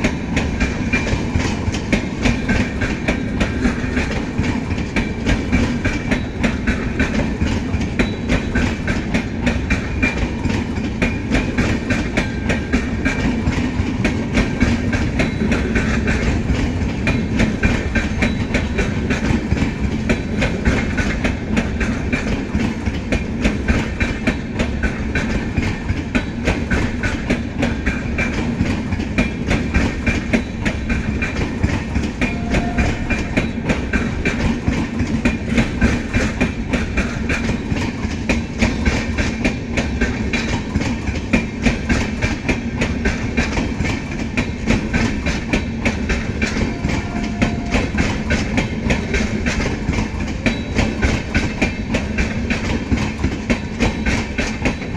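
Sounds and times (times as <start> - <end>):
train wheels clattering over joints: 0.0 - 54.9.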